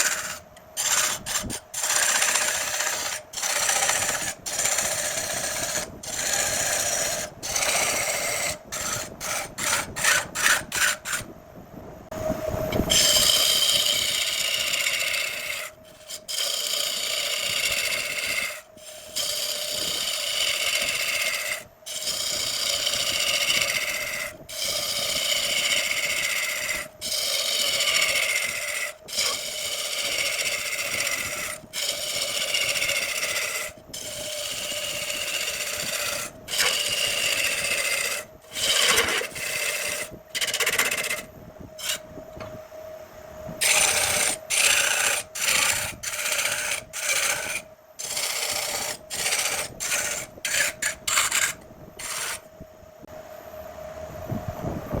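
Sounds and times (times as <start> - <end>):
lathe tool scraping wood: 0.0 - 11.3, 12.7 - 42.5, 43.6 - 52.5
steady lathe hum: 0.0 - 54.1.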